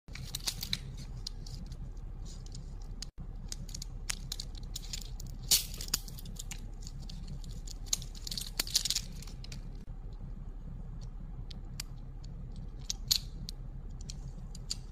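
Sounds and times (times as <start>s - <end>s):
low hum: 0.1s - 14.9s.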